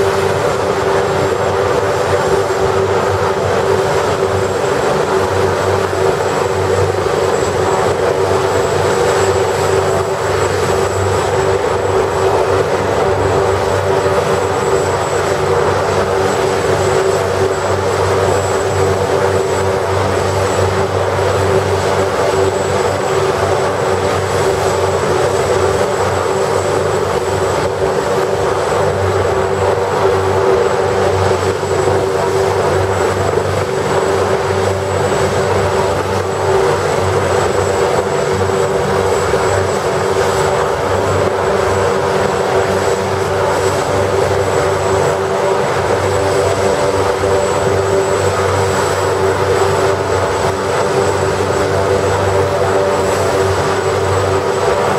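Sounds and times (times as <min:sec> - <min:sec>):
helicopter turbine whine: 0:00.0 - 0:54.9
low rotor hum: 0:00.0 - 0:54.9.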